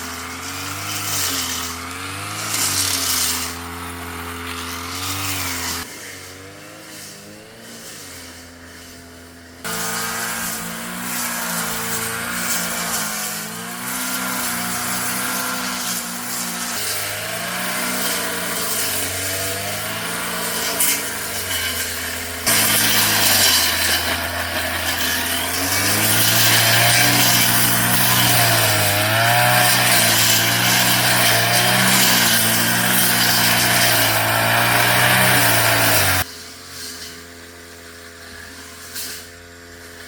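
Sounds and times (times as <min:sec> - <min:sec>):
brush cutter engine cutting weeds: 0:00.0 - 0:40.0.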